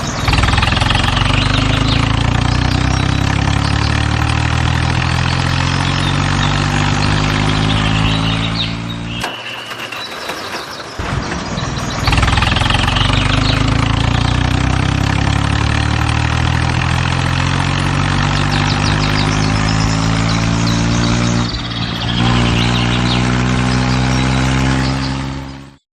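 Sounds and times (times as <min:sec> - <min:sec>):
tractor engine running: 0:00.0 - 0:25.8.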